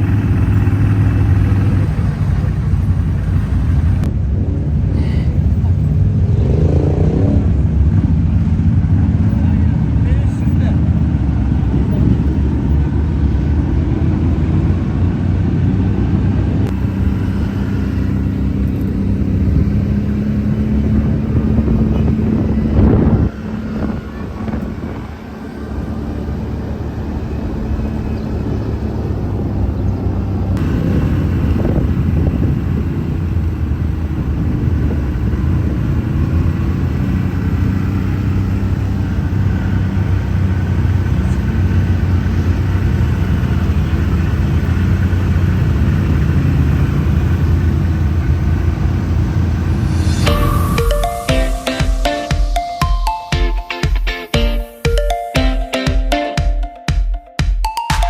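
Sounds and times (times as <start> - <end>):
off-road vehicle engine running: 0.0 - 50.8.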